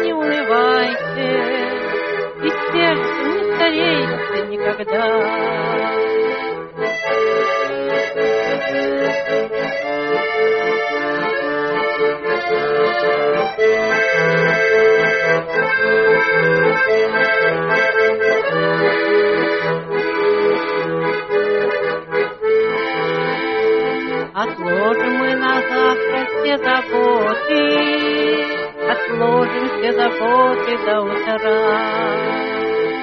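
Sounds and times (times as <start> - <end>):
button accordion melody: 0.0 - 33.0.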